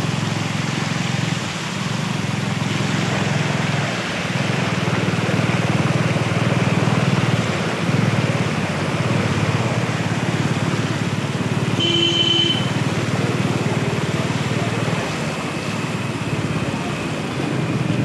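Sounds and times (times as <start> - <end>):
small motorbike engine running: 0.0 - 18.0
water splashing from wheels: 0.0 - 18.0.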